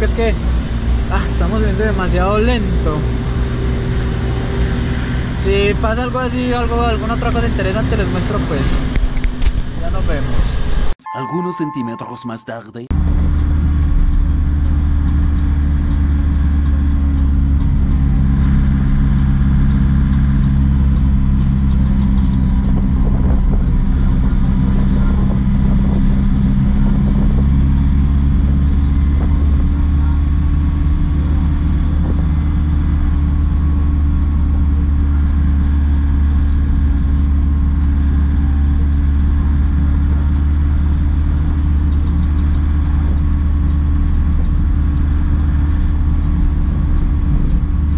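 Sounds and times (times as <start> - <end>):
truck engine rumbling: 0.0 - 11.0, 12.9 - 47.9.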